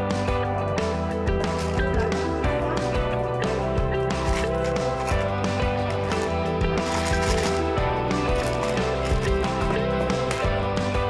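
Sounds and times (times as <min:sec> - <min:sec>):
instrumental music over steady beat: 0:00.0 - 0:11.0.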